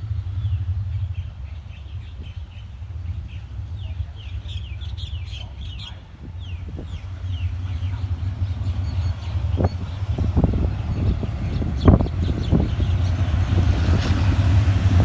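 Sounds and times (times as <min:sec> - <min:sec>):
low rumble: 0:00.0 - 0:15.0
birds chirping: 0:00.2 - 0:15.0.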